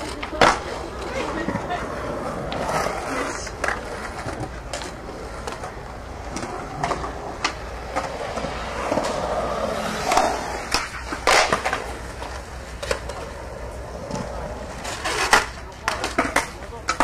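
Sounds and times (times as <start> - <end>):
skateboard clacks: 0.0 - 17.0
skateboard wheel rumble: 0.0 - 17.0.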